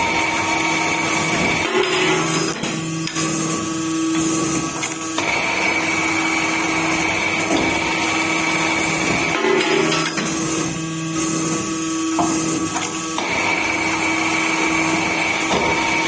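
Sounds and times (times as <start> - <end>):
drilling machine hum and hiss: 0.0 - 16.0.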